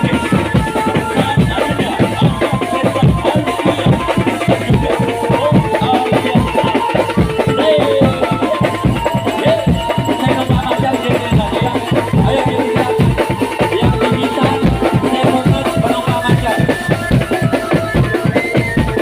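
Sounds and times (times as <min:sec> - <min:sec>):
drum band playing: 0:00.0 - 0:19.0
held melodic tones: 0:00.0 - 0:19.0.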